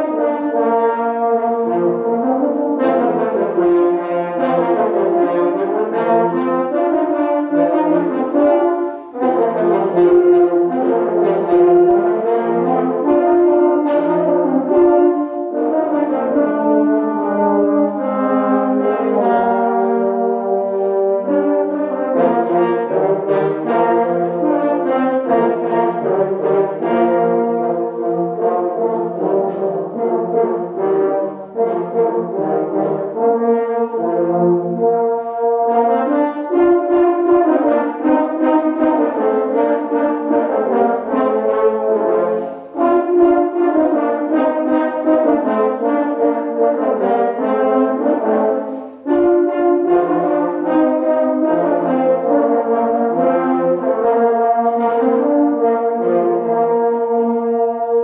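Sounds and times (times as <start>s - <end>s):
french horn ensemble playing: 0.0s - 58.0s.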